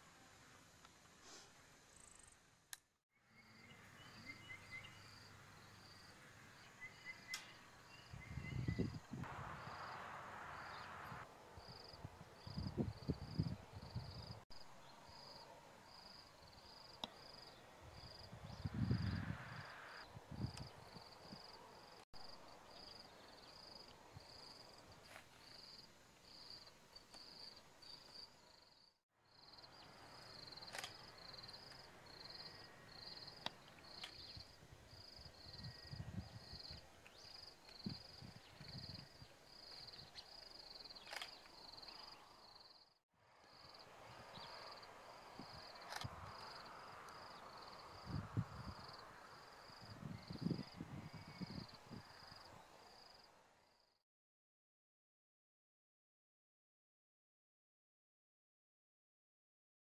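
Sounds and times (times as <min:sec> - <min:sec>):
insect chirping: 0:01.9 - 0:02.6, 0:03.2 - 0:14.4, 0:15.1 - 0:54.0.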